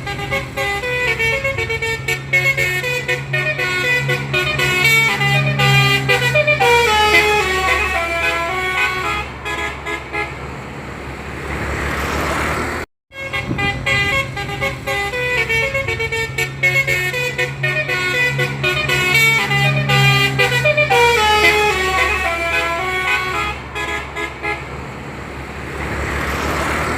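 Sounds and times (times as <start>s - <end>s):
multi-tone bus horn tune: 0.0s - 10.7s, 13.1s - 25.1s
engine running: 0.0s - 26.9s.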